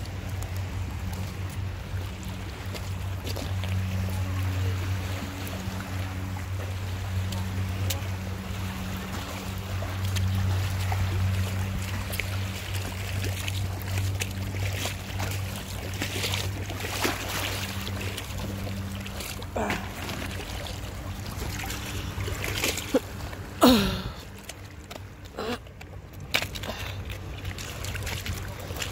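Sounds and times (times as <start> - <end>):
low hum: 0.0 - 28.9
water lapping on boulders: 0.0 - 28.9.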